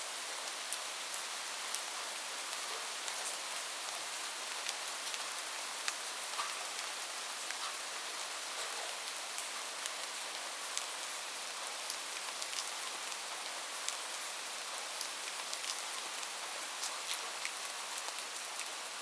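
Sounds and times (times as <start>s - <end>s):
steady rain falling: 0.0s - 19.0s
raindrops ticking on a surface: 0.4s - 19.0s.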